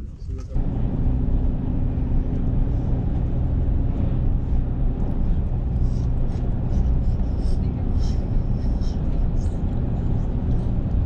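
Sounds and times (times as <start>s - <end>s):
constant low hum: 0.0s - 11.0s
vehicle rumble from inside: 0.0s - 11.0s.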